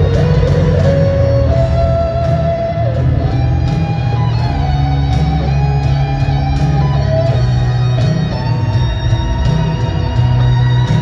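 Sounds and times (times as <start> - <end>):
bass guitar: 0.0 - 11.0
drums: 0.0 - 11.0
electric guitar solo: 0.0 - 11.0.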